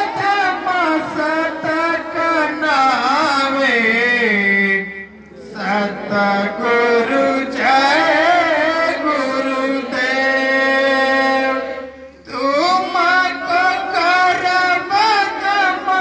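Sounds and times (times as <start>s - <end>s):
person chanting a hymn: 0.0s - 16.0s.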